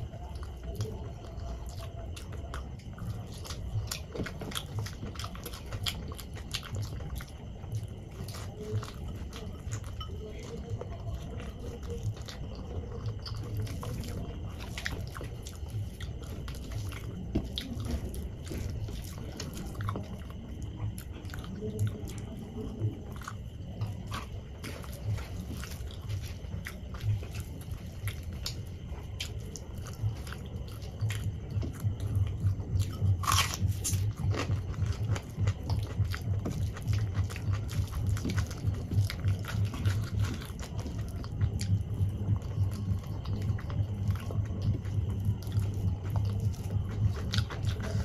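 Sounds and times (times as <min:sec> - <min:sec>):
wet chewing and mouth clicks: 0:00.0 - 0:48.0.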